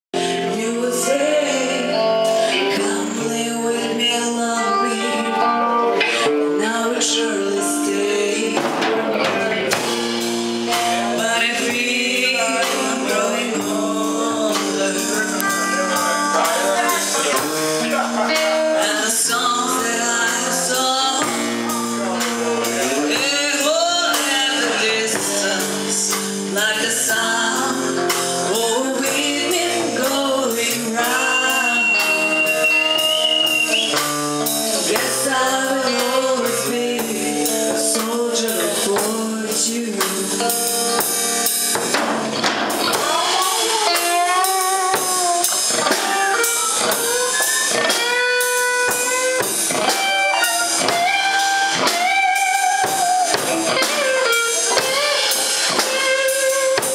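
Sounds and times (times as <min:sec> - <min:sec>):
woman singing into a microphone: 0:00.2 - 0:09.6, 0:10.7 - 0:17.6, 0:18.3 - 0:34.0, 0:34.6 - 0:42.0, 0:42.7 - 0:56.9
drum kit beat: 0:00.2 - 0:56.9
electric guitar: 0:00.2 - 0:56.9.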